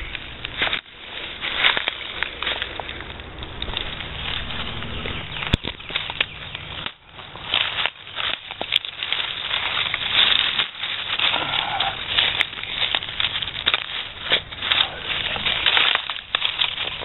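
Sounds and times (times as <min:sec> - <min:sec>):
dry leaves and twigs rustling: 0:00.0 - 0:17.0.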